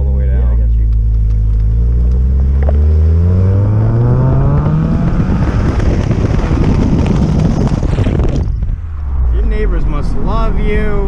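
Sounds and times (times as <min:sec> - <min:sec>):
car engine accelerating hard: 0:00.0 - 0:10.6.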